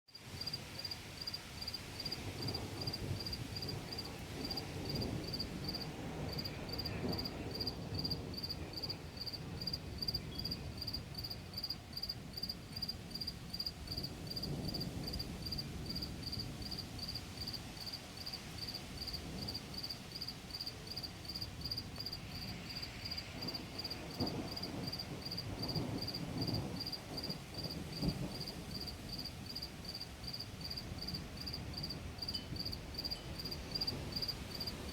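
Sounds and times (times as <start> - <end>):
crickets chirping: 0.4 - 34.9
distant thunder: 1.6 - 34.9.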